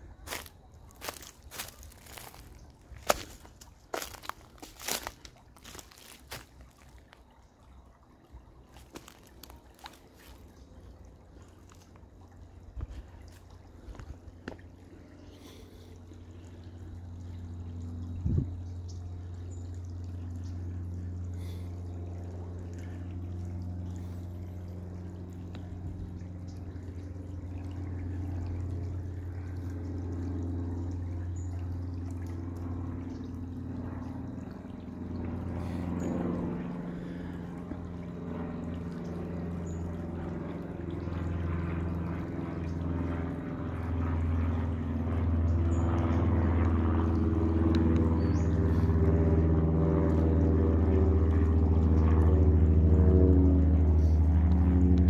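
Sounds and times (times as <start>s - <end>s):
creek trickling over stones: 0.0s - 55.0s.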